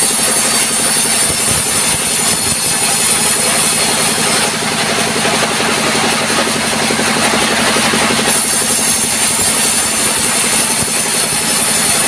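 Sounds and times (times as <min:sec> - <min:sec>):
saw whine: 0:00.0 - 0:12.0
sawmill engine drone: 0:00.0 - 0:12.0.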